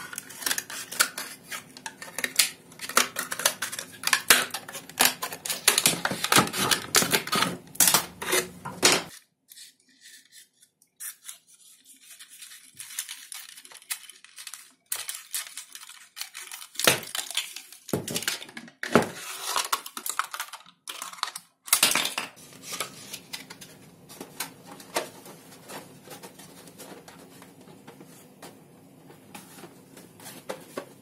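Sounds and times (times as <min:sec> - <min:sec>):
plastic crinkling and clicking: 0:00.0 - 0:09.2, 0:12.5 - 0:31.0.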